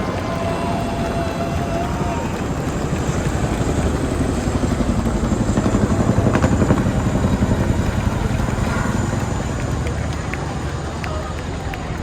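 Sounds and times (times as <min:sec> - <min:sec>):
helicopter rotors beating: 0:00.0 - 0:12.0.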